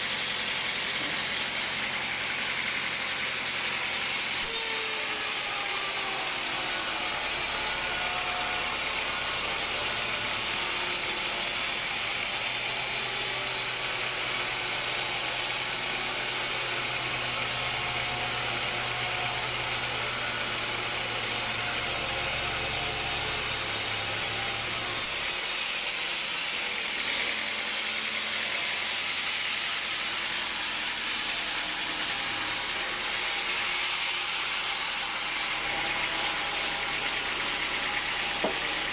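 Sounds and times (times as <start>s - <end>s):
sawmill machinery hiss: 0.0s - 38.9s.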